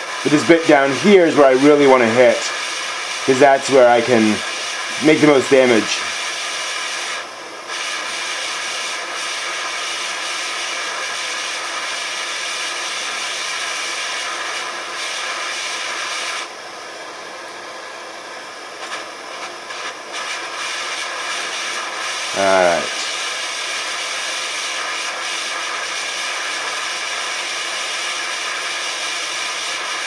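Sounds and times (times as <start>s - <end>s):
blowtorch flame hissing: 0.0s - 30.0s.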